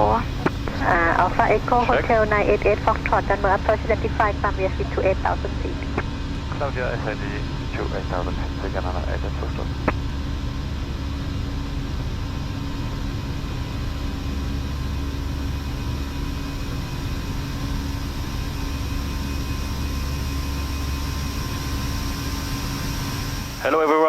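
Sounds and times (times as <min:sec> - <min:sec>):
faint steady hums: 0:00.0 - 0:24.0
jet engine drone: 0:00.0 - 0:24.0.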